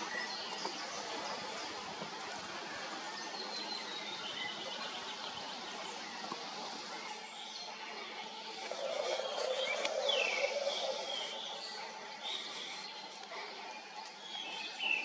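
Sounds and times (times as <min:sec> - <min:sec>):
birds singing and chirping: 0:00.0 - 0:15.0.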